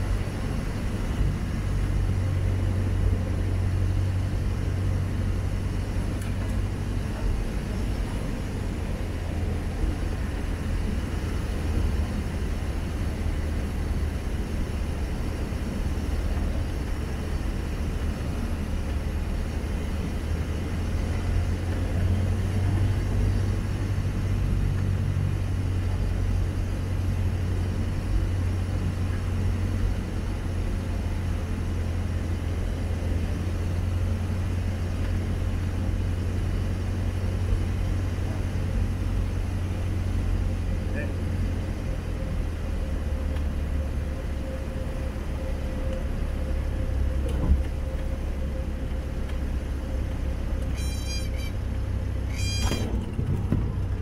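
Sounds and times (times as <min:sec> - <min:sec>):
airplane engine and propeller droning: 0:00.0 - 0:54.0.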